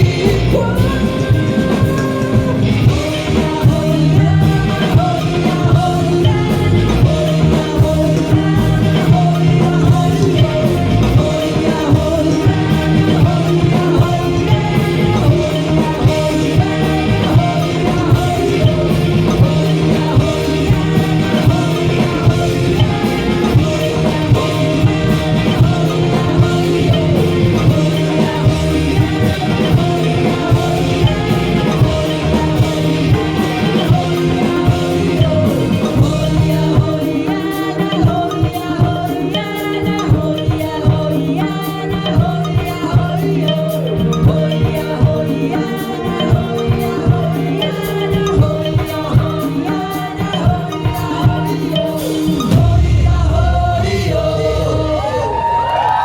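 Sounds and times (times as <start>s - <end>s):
rock band music with singing: 0.0s - 56.0s.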